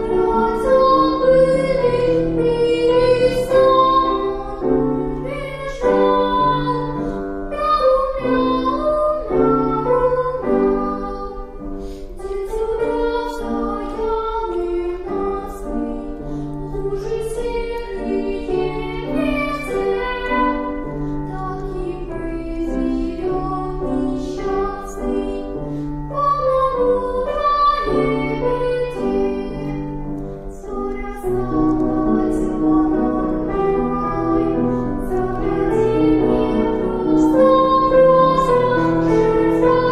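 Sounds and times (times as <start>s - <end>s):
girl singing: 0.0s - 39.9s.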